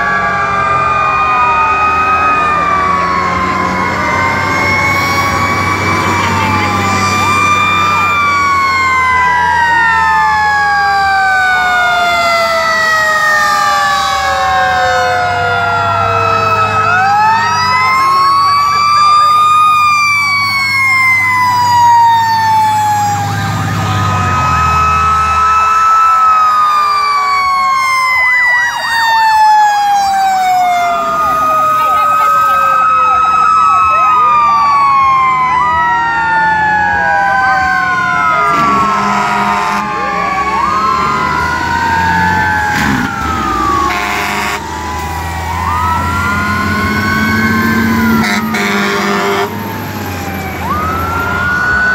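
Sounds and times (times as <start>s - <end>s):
fire truck sirens wailing: 0.0s - 51.9s
truck engine rumbling: 0.0s - 51.9s.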